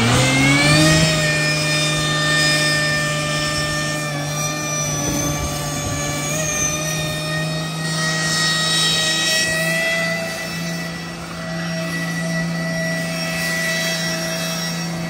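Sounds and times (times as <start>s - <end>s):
diesel engine at high revs: 0.0s - 15.0s.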